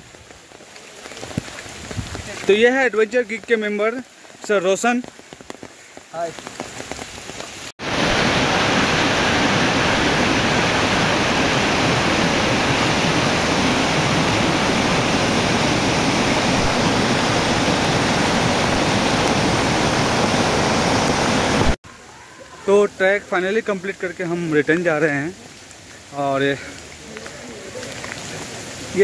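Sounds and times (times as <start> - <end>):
stream rushing over boulders: 0.0 - 29.0.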